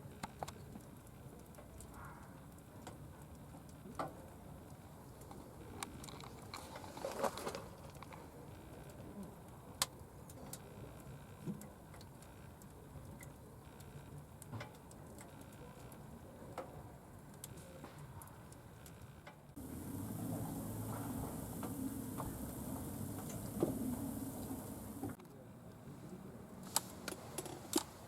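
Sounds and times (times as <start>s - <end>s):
wood fire crackling: 0.0s - 25.2s.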